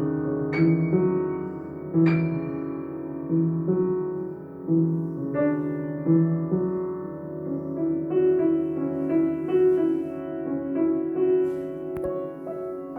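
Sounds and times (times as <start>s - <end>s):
solo piano piece: 0.0s - 12.9s.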